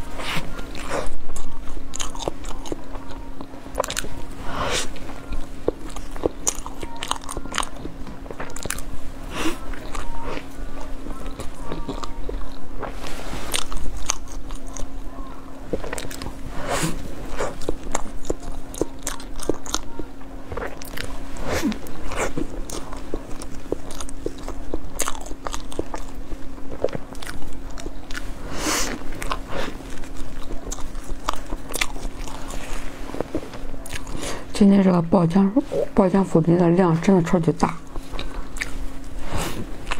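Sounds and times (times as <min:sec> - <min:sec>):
crunchy pastry chewing: 0:00.0 - 0:34.5, 0:37.6 - 0:39.9
steady low hum: 0:00.0 - 0:39.9.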